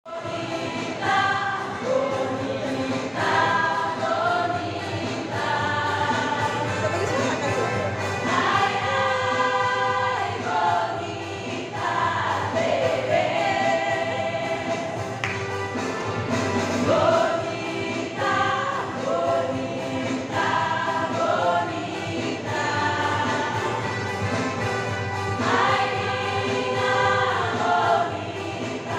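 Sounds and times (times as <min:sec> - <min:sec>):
women's choir singing: 0:00.1 - 0:07.4, 0:08.1 - 0:28.9.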